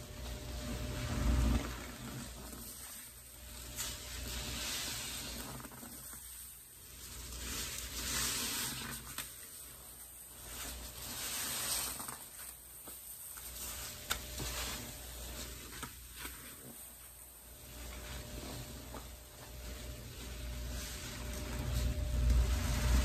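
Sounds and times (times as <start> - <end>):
foam popping sizzle: 0.0 - 23.0
sponges squelching: 1.0 - 23.0.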